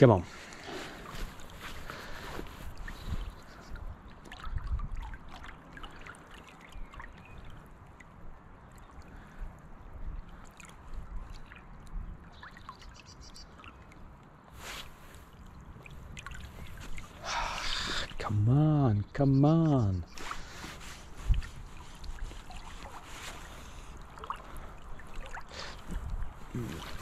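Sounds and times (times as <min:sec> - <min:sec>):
river water lapping and trickling: 0:00.0 - 0:27.0
small water splashes: 0:00.3 - 0:18.4, 0:20.1 - 0:27.0.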